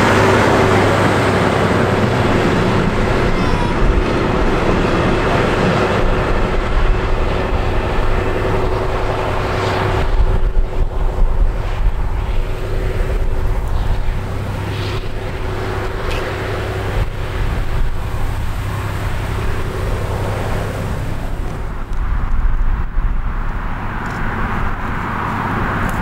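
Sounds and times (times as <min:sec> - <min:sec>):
diesel locomotive engine drone: 0:00.0 - 0:26.0
wind noise on microphone: 0:00.0 - 0:26.0.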